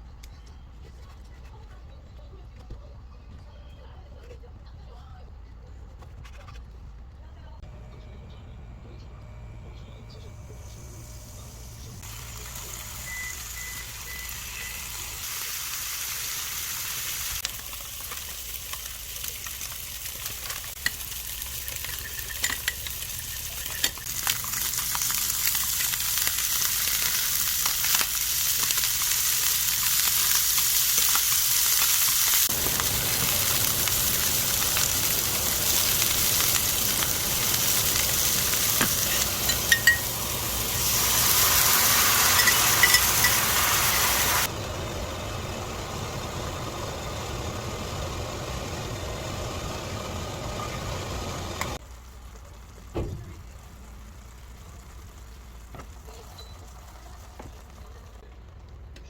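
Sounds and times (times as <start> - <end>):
food sizzling in a frying pan: 10.6 - 58.2.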